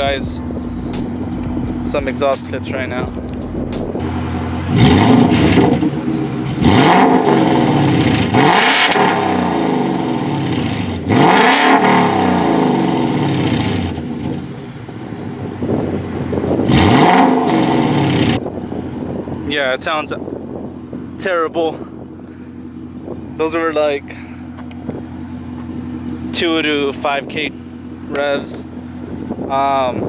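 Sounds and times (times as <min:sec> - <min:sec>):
car engine revving: 0:00.0 - 0:19.5, 0:22.0 - 0:29.5.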